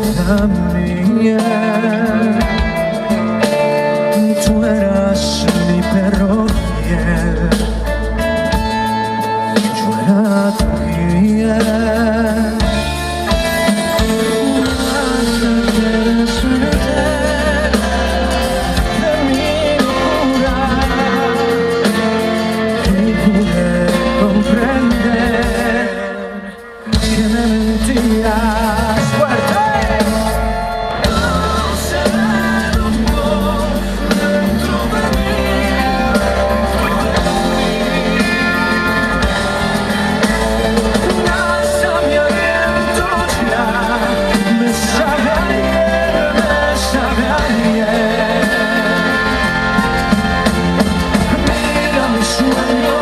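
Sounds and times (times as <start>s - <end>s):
live band instrumental music: 0.0s - 53.0s.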